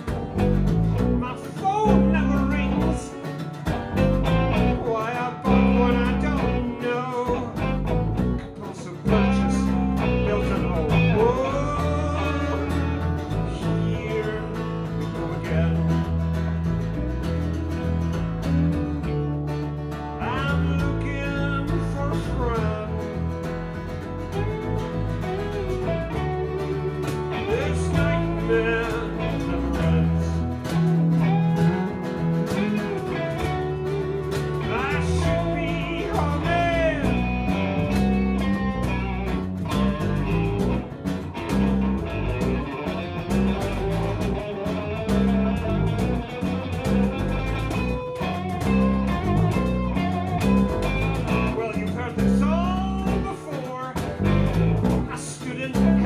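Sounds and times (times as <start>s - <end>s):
acoustic guitar: 0.0s - 56.0s
electric guitar: 0.0s - 56.0s.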